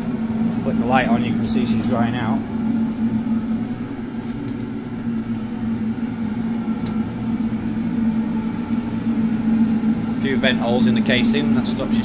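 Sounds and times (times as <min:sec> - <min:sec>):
gas forge burner humming: 0:00.0 - 0:12.0.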